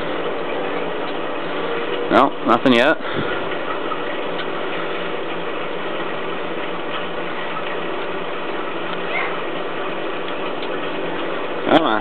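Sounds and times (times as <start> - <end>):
mechanical running noise: 0.0 - 12.0.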